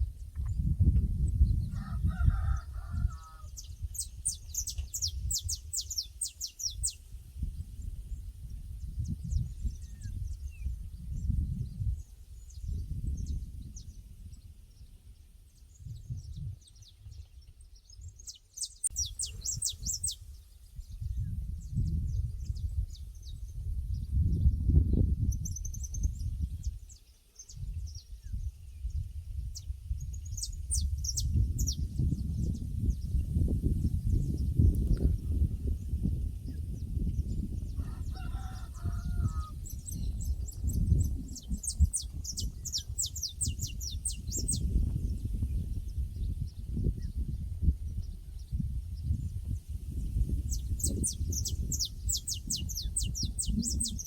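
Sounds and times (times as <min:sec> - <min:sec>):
small birds chirping: 0:03.3 - 0:24.6, 0:25.2 - 0:54.0.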